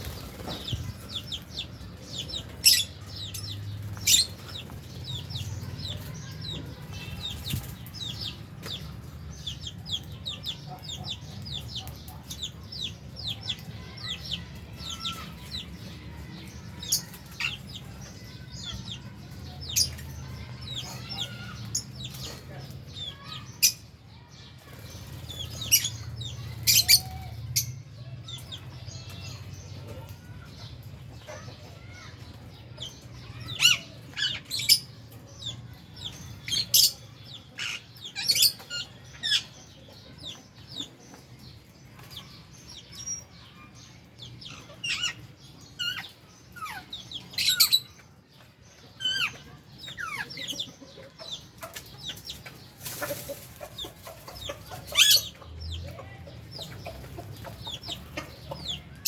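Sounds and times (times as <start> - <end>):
birds chirping in aviary: 0.0 - 59.0.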